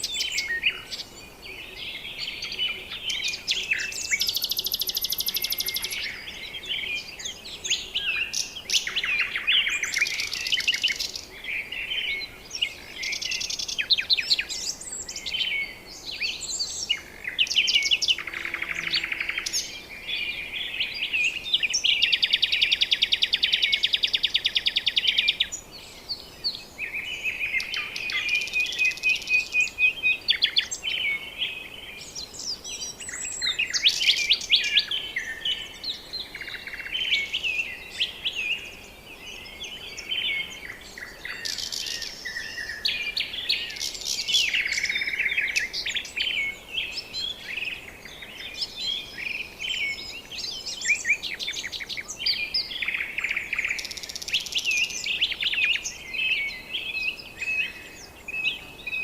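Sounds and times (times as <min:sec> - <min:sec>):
birds chirping and whistling: 0:00.0 - 0:59.0.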